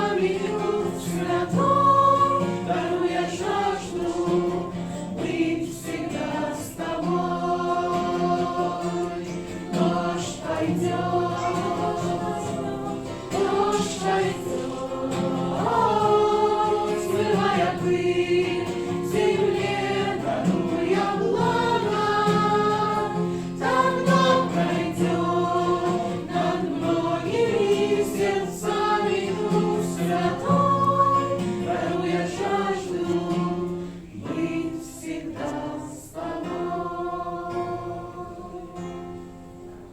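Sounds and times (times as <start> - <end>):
choir singing a worship song: 0.0 - 39.9.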